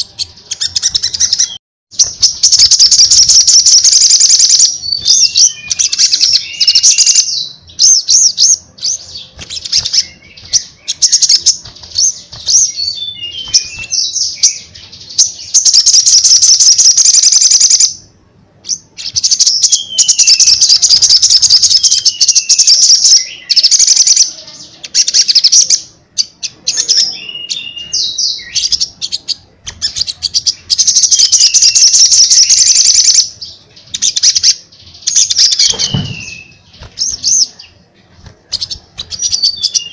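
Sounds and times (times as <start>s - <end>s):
sunbird singing trills: 0.0s - 18.0s, 18.6s - 39.9s.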